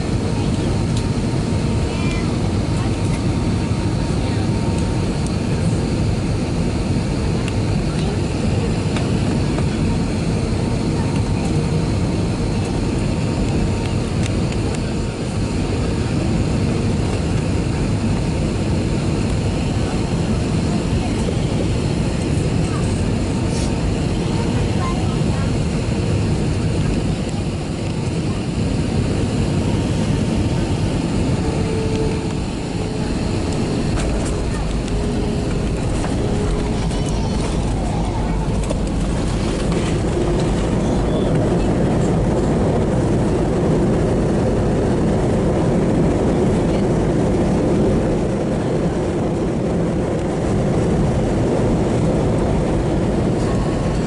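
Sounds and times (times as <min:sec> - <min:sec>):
airliner cabin roar: 0:00.0 - 0:54.0.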